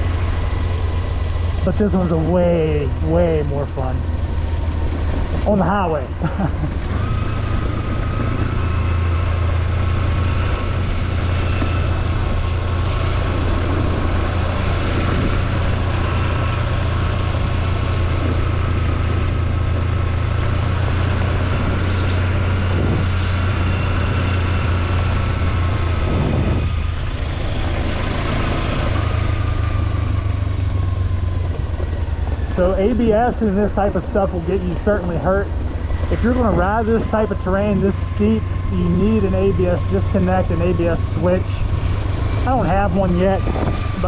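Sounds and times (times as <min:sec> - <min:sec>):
motorcycle engine droning: 0:00.0 - 0:44.0.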